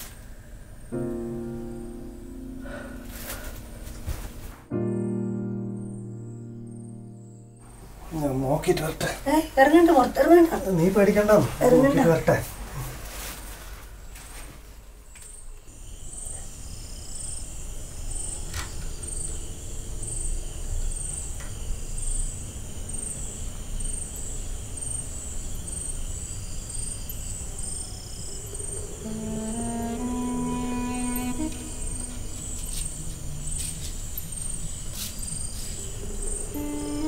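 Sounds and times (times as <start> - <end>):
night insects chirping: 0.0 - 12.6, 13.9 - 37.0.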